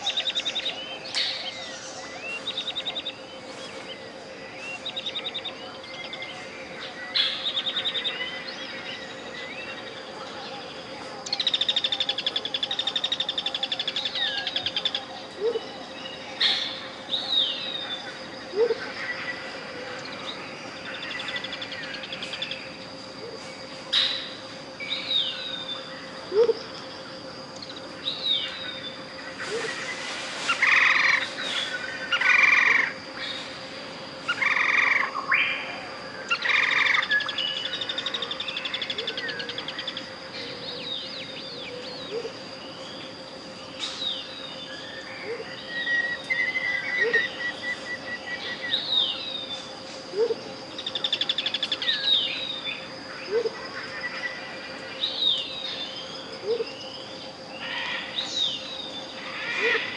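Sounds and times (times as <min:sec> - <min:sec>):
jungle birds calling: 0:00.0 - 0:59.9
steady pure tone: 0:00.0 - 0:59.9.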